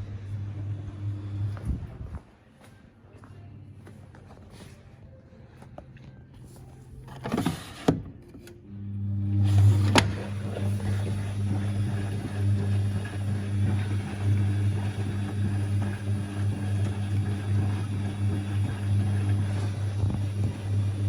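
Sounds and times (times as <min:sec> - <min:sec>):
washing machine hum: 0:00.0 - 0:02.2, 0:06.3 - 0:21.0.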